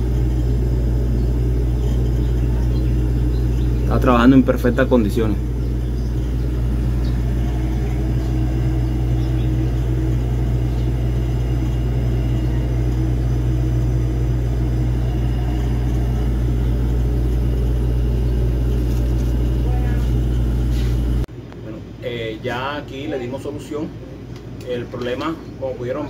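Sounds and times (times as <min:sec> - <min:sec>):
refrigerator humming: 0:00.0 - 0:26.0.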